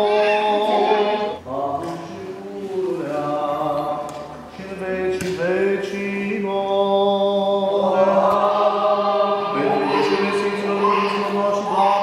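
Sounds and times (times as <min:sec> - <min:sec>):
voices chanting a slow hymn: 0:00.0 - 0:12.0.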